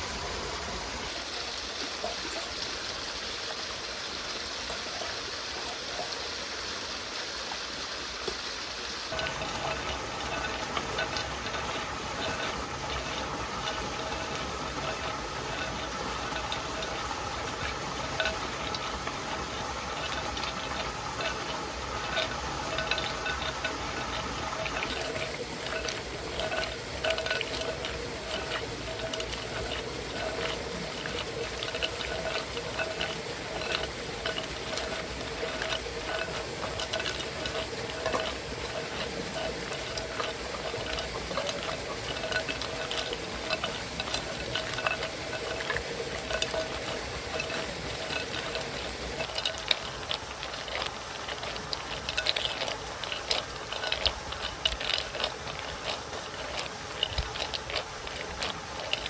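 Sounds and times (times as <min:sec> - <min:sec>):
running stream water: 0:00.0 - 0:59.0
utensil stirring and tapping pot: 0:09.1 - 0:59.0.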